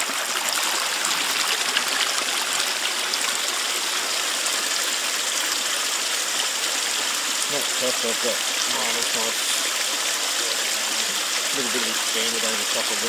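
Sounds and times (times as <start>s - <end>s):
water rushing down a sluice: 0.0s - 13.0s.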